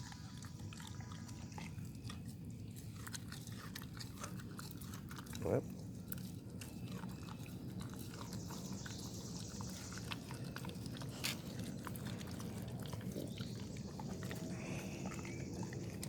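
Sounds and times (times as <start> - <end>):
dog chewing raw meat: 0.0 - 16.0.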